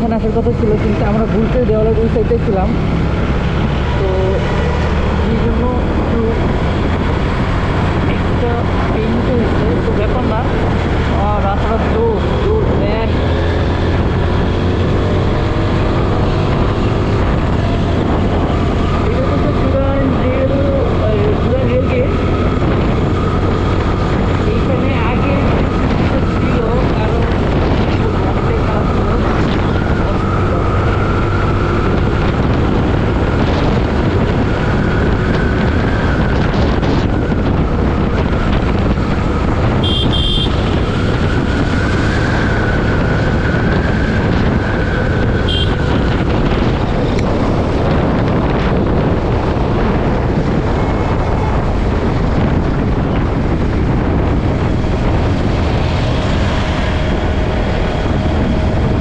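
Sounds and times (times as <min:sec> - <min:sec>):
motorcycle engine: 0:00.0 - 0:59.0
wind rushing over microphone: 0:00.0 - 0:59.0.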